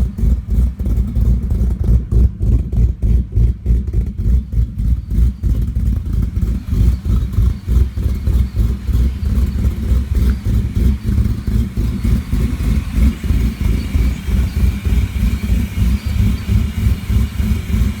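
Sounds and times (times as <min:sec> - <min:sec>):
truck engine idling choppily: 0:00.0 - 0:18.0.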